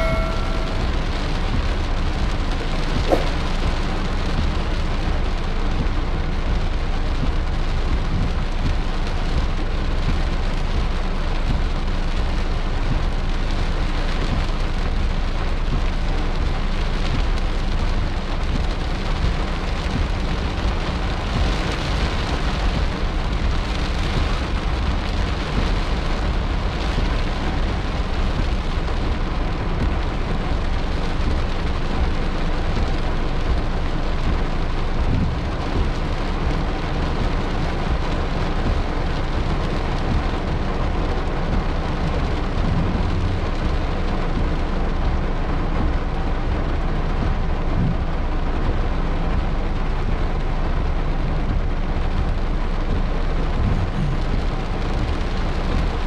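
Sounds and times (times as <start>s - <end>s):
heavy rain on car roof: 0.0s - 56.0s.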